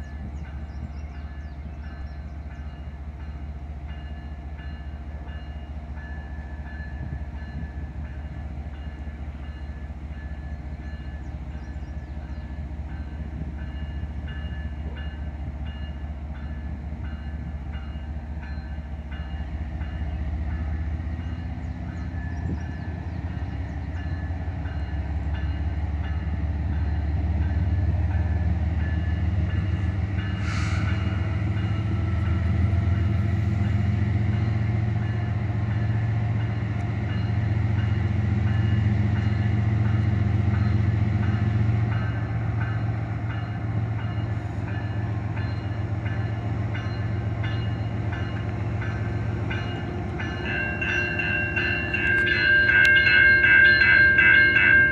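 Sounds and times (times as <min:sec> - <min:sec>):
diesel locomotives rumbling: 0:00.0 - 0:54.9.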